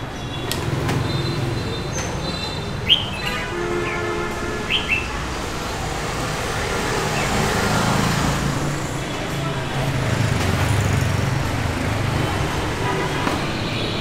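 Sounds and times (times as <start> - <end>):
street background noise: 0.0 - 14.0.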